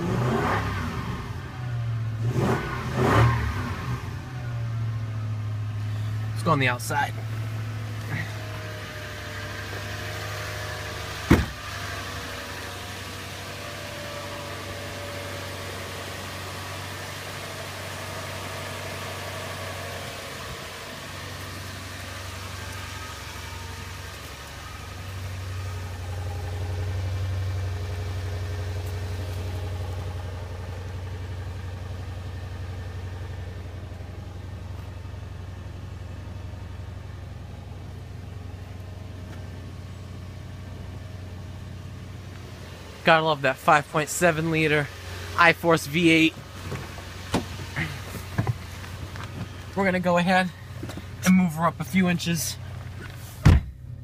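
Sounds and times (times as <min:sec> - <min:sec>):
truck engine idling: 0:04.2 - 0:54.0.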